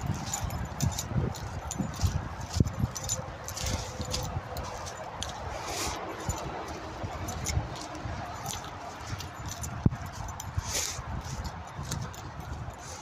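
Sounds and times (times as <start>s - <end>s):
footsteps through long grass: 0.0s - 13.0s
rustling vegetation: 0.0s - 13.0s.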